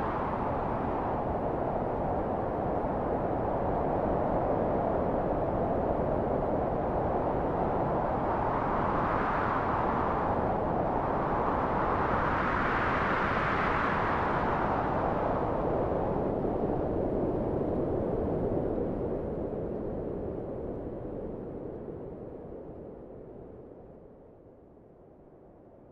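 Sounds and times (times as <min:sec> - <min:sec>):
strong wind blowing: 0:00.0 - 0:22.9.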